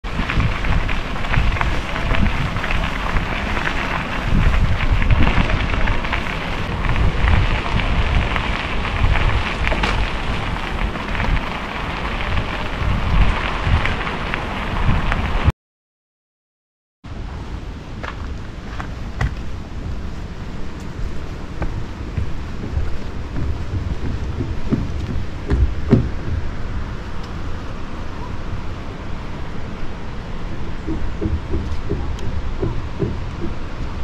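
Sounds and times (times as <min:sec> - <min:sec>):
bicycle tyres rolling on gravel: 0:00.0 - 0:15.5, 0:17.1 - 0:34.0
wind rumble on microphone: 0:00.0 - 0:15.5, 0:17.1 - 0:34.0.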